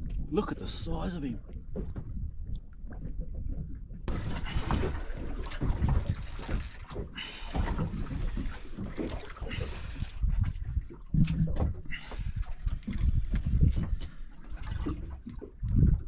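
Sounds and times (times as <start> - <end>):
boat at sea: 0.0 - 16.0
wind buffeting microphone: 0.0 - 16.0.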